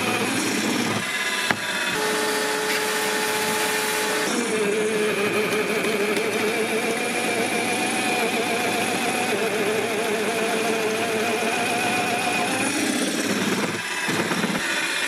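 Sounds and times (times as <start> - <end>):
pillar drill boring into wood: 0.0 - 15.0.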